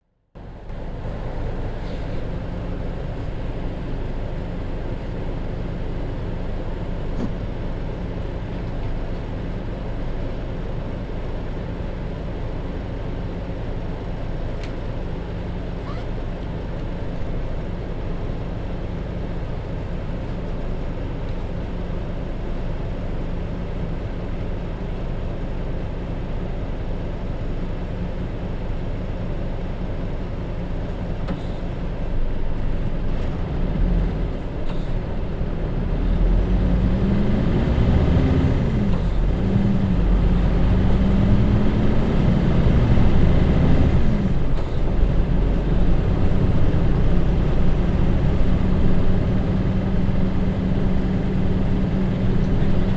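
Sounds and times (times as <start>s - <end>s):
bus diesel engine: 0.0s - 52.9s.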